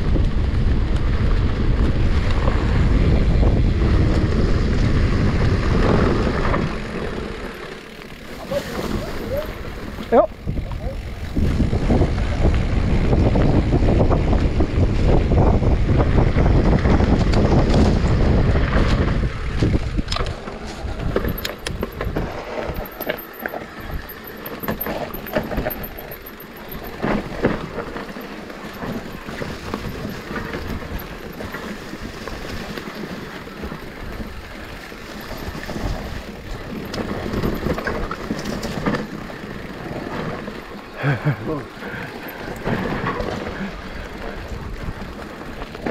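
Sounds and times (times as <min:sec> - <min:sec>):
bike rattling and knocking: 0:00.0 - 0:45.9
bike tyre noise: 0:00.0 - 0:45.9
wind buffeting microphone: 0:00.0 - 0:45.9.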